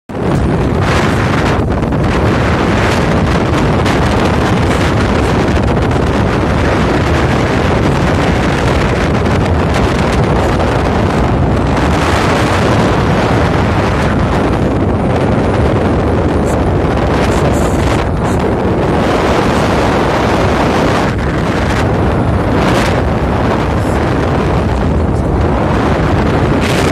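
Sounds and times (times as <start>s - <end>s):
low rumble of ship: 0.1s - 26.9s
wind buffeting microphone: 0.1s - 26.9s.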